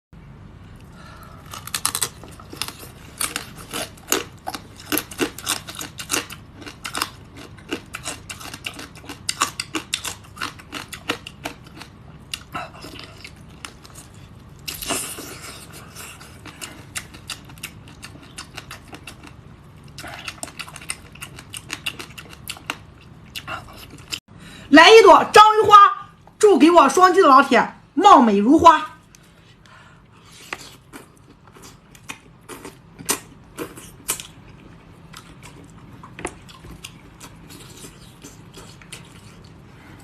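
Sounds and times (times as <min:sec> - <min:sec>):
person chewing and crunching: 0:01.3 - 0:24.2, 0:29.1 - 0:40.0.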